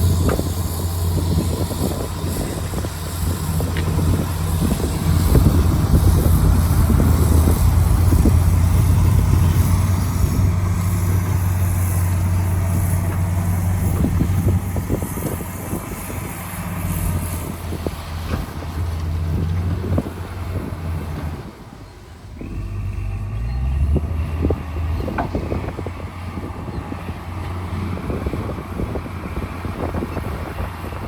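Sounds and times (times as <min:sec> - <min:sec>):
diesel earthmoving machinery running: 0:00.0 - 0:31.0
engine with high tone: 0:00.0 - 0:31.0.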